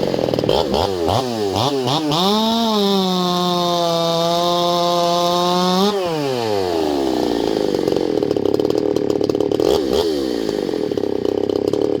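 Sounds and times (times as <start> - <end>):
chainsaw throttle blip: 0.0 - 3.6, 4.6 - 12.0
chainsaw engine idling: 0.0 - 12.0.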